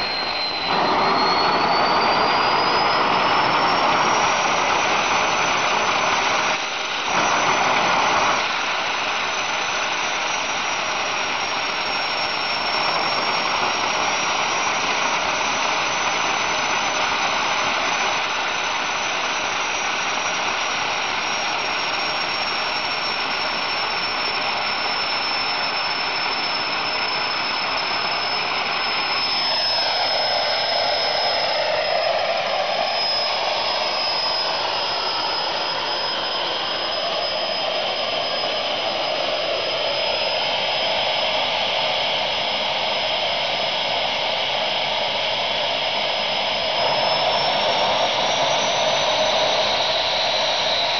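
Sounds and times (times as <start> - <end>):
high turbine whine: 0.0 - 50.9
jet engine combustion roar: 0.0 - 50.9.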